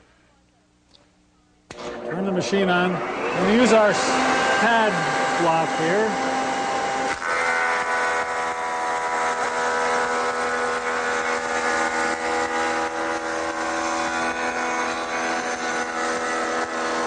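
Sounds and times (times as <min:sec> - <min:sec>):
woodworking shaper whining: 0:01.7 - 0:17.0.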